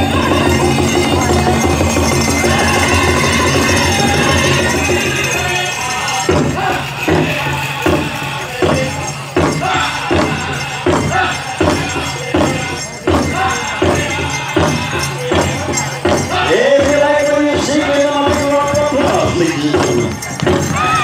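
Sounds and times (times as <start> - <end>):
drum steady beat: 0.0 - 21.0
high held singing voice: 0.0 - 21.0
leg bells jingling: 0.0 - 21.0.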